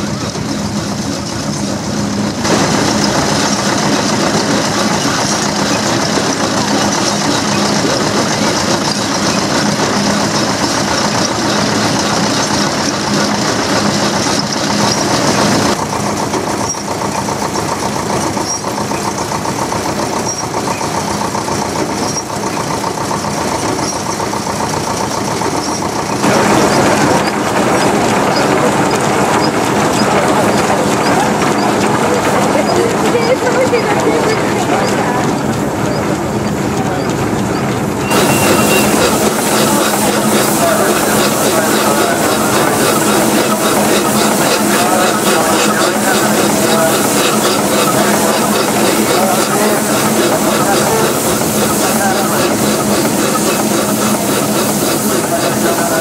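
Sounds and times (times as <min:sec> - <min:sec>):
threshing machine humming: 0:00.0 - 0:56.0.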